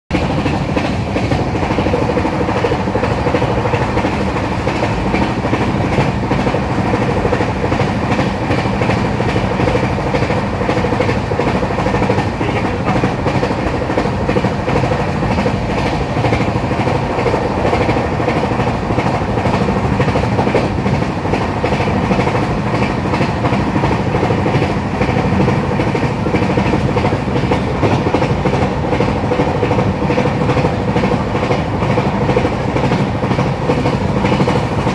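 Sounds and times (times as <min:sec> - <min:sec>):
train wheels rumbling on rails: 0:00.1 - 0:34.9.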